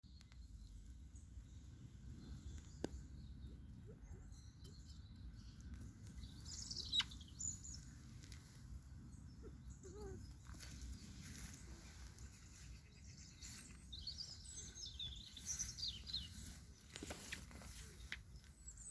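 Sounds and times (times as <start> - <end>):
bird chirps and calls: 2.2 - 18.9.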